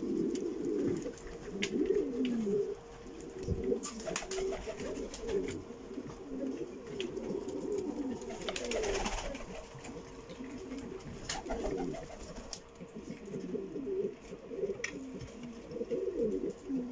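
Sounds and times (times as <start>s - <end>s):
pigeons cooing: 0.0s - 16.9s.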